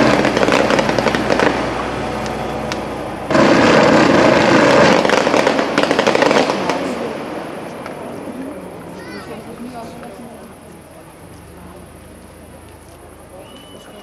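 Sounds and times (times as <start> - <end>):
firework fountains hissing and crackling: 0.0 - 14.0.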